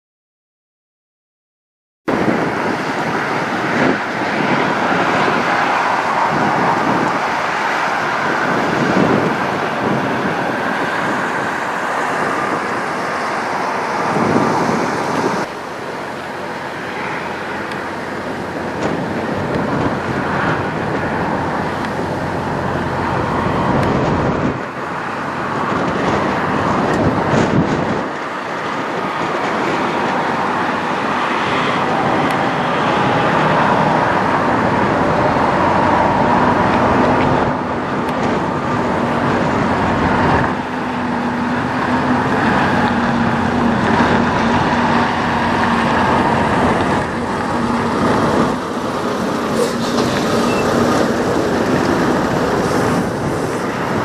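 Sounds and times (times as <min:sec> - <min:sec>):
diesel trucks passing: 0:02.1 - 0:54.0
tyre noise on pavement: 0:02.1 - 0:54.0.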